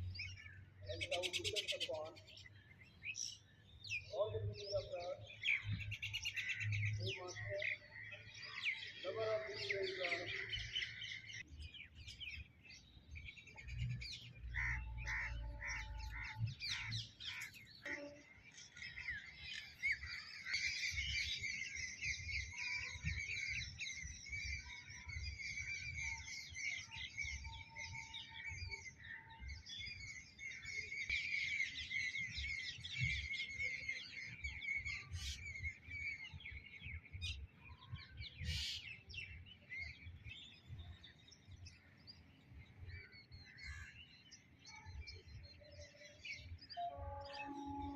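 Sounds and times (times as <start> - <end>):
repeated bird call notes: 0.0 - 12.6, 13.4 - 40.2, 43.4 - 47.9
many birds chirping: 0.0 - 47.9.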